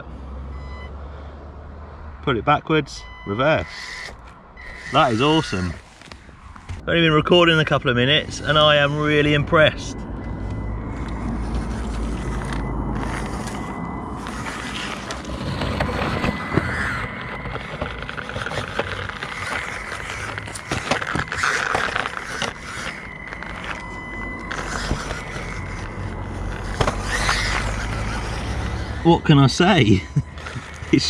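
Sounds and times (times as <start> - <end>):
small tyres crunching on gravel: 2.7 - 31.0
electric motor whine: 3.6 - 31.0.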